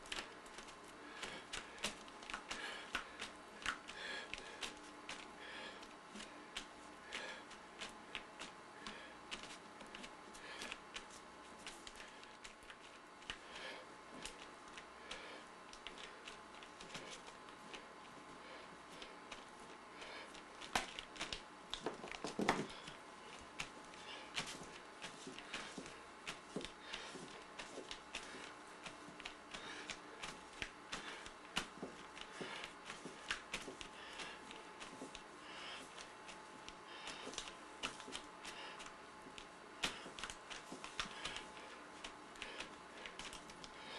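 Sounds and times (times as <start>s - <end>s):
faint steady hum: 0.0s - 43.9s
fingertips dabbing wet paint: 0.0s - 43.9s.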